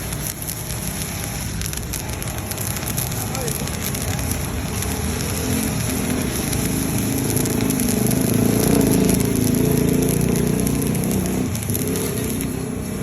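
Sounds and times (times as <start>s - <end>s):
welding arc crackling: 0.0s - 13.0s.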